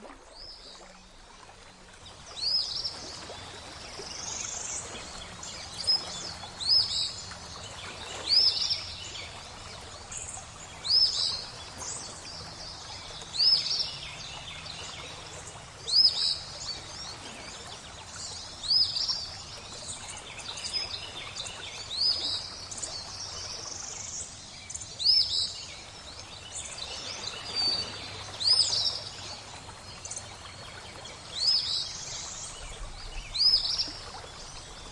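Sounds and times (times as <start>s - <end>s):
running water: 0.0s - 34.9s.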